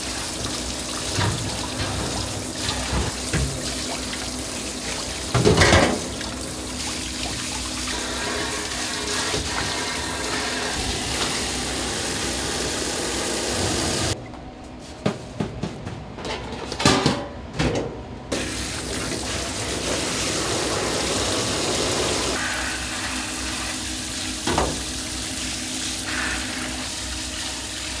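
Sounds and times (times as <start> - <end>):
water running from a tap: 0.0 - 14.2, 18.3 - 28.0.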